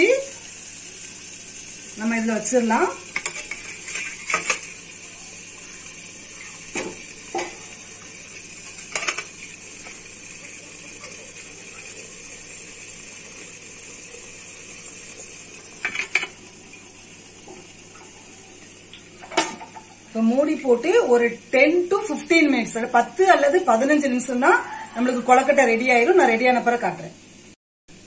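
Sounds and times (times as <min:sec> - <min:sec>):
water boiling with hiss: 0:00.0 - 0:28.0.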